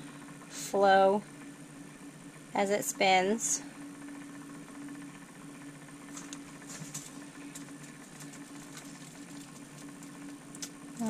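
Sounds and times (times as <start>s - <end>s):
small electric motor humming: 0.0s - 11.0s.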